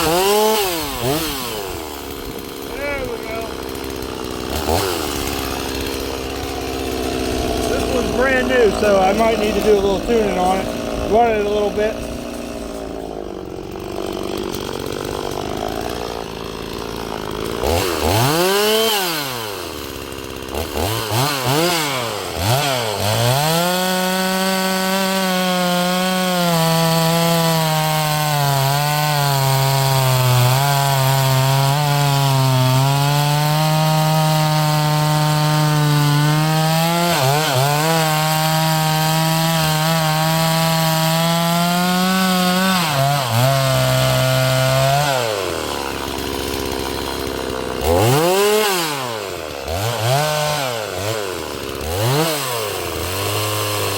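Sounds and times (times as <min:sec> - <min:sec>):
chainsaw revving and cutting wood: 0:00.0 - 0:53.9.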